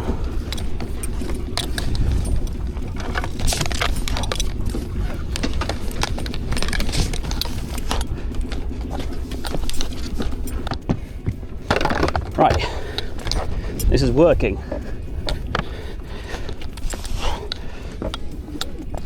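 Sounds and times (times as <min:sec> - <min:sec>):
boat engine rumbling: 0:00.0 - 0:19.0
clicks and rattles: 0:00.0 - 0:19.0.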